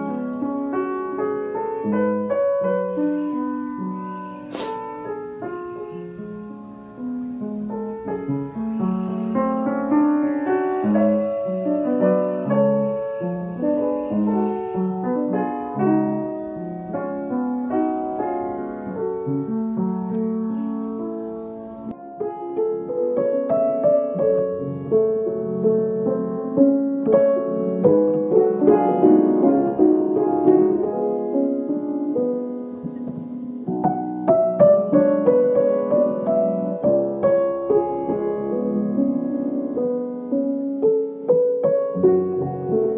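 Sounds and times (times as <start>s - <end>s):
solo piano piece: 0.0s - 42.9s.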